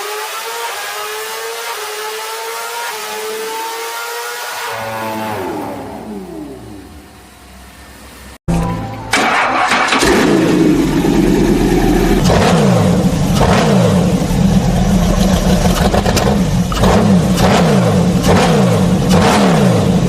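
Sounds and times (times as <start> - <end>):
motorcycle engine revving: 0.0 - 7.3, 9.6 - 20.0.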